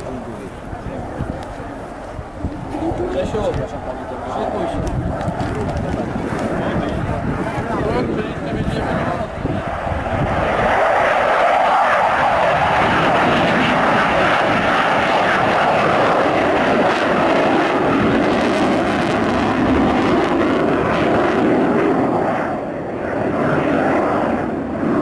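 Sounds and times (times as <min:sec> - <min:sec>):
jet fighter passing: 0:00.0 - 0:25.0.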